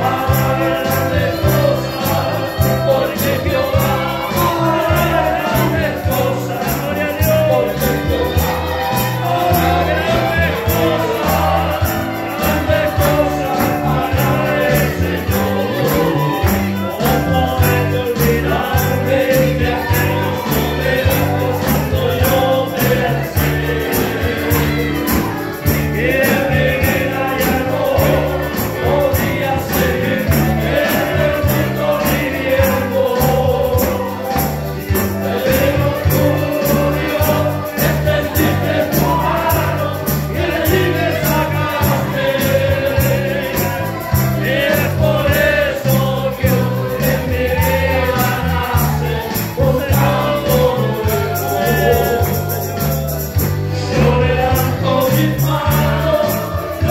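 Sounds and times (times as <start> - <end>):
band playing: 0.0 - 56.9
group singing worship song: 0.0 - 56.9.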